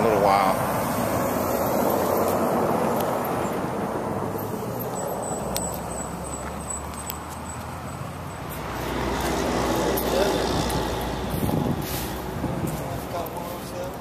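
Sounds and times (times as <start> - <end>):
passing vehicle: 0.0 - 14.0.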